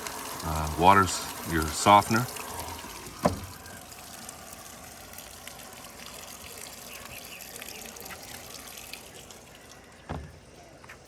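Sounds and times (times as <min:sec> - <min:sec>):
water filling washing machine: 0:00.0 - 0:10.3.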